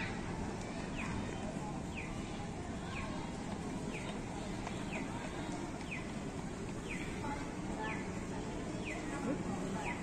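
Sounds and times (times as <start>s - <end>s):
murmur of crowd: 0.0s - 10.0s.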